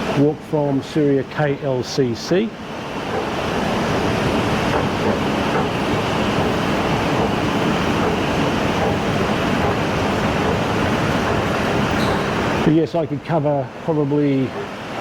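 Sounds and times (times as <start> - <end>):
air rushing from vents: 0.0 - 15.0.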